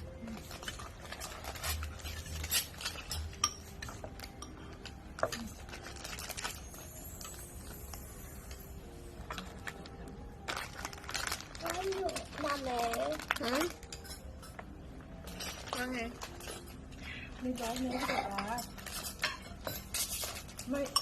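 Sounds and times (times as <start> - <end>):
dishes and cutlery clinking: 0.0 - 9.9, 13.3 - 21.0.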